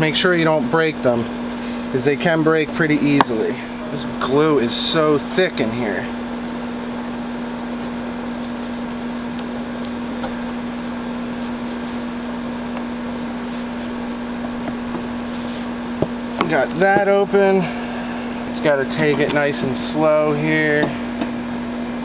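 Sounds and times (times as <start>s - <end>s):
machine fan humming: 0.0s - 22.0s.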